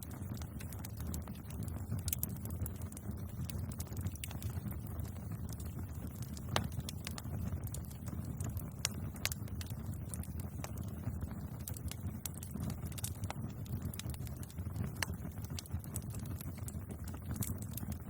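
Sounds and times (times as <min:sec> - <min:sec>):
bonfire crackling and popping: 0:00.0 - 0:18.0
low rumble of flames: 0:00.0 - 0:18.0.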